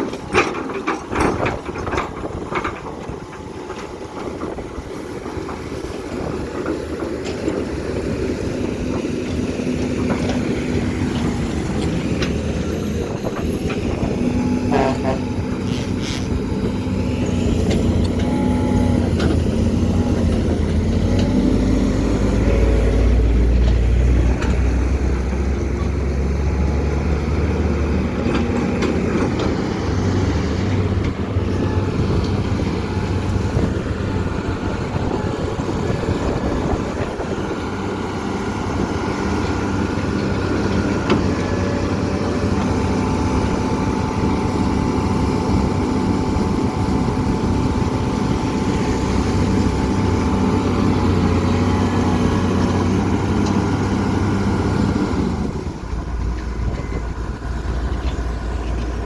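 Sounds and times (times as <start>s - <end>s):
excavator diesel engine rumbling: 0.0s - 59.0s.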